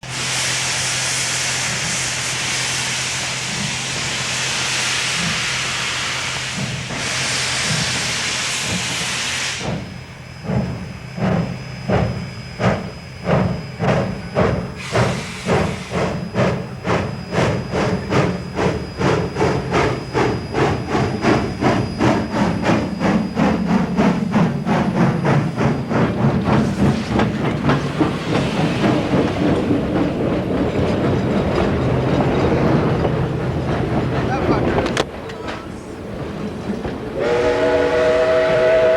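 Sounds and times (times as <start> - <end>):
steam hissing: 0.0 - 34.1, 37.2 - 38.9
steam locomotive exhaust chuffs: 0.0 - 35.0, 36.3 - 38.9.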